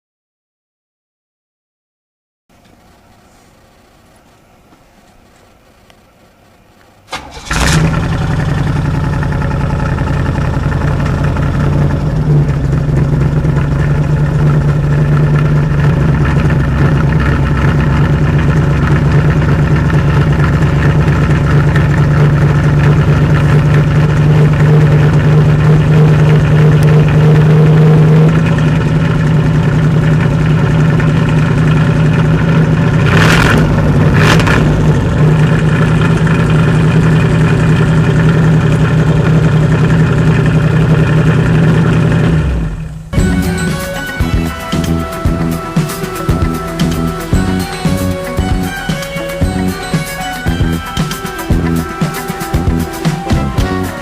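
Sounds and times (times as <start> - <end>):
car engine idling: 2.5 - 54.0.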